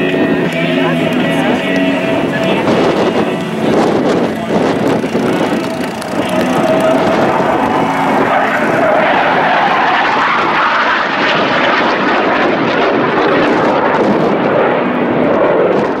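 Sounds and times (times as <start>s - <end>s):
jet aircraft flying past: 0.0s - 16.0s.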